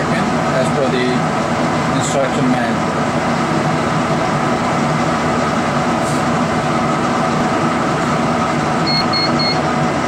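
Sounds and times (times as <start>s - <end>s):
machine humming with steady tones: 0.0s - 10.0s.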